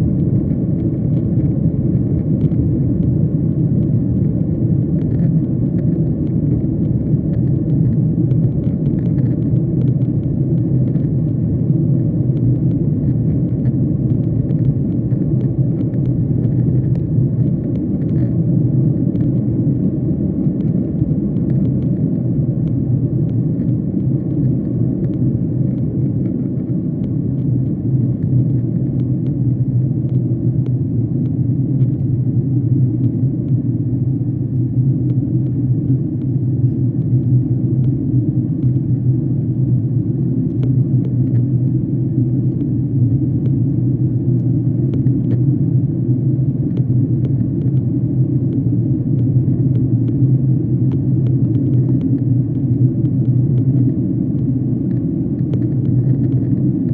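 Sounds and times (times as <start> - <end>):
jet engines rumbling: 0.0 - 56.9.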